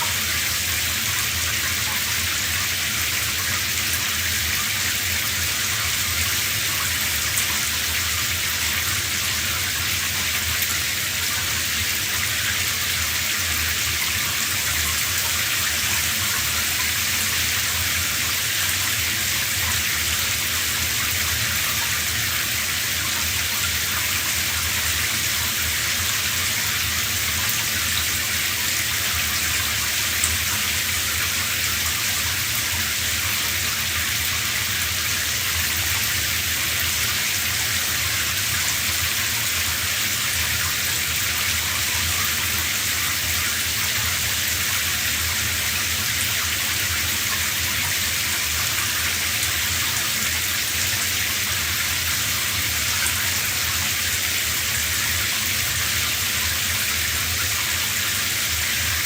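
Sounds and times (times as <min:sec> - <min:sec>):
shower running: 0:00.0 - 0:59.0.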